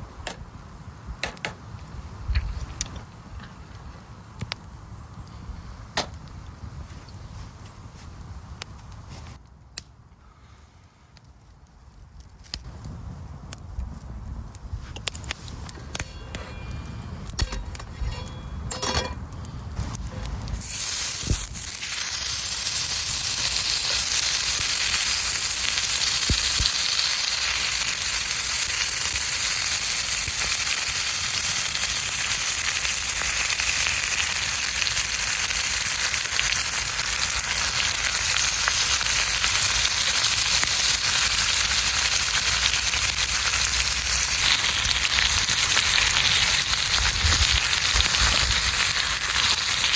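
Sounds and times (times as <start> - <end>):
sizzling over campfire: 0.0 - 49.9.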